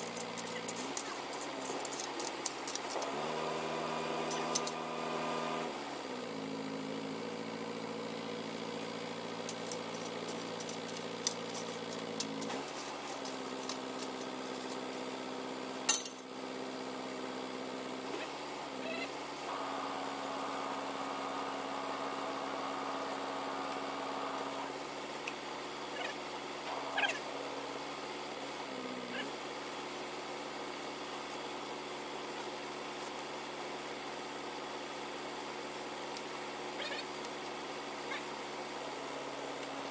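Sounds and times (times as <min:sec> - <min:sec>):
truck engine at raised revs: 0:00.0 - 0:39.9.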